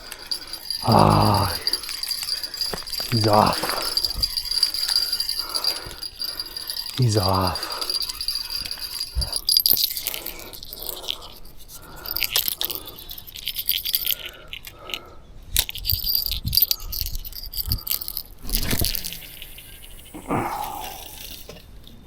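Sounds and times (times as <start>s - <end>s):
fishing gear jingling and rattling: 0.0s - 22.0s.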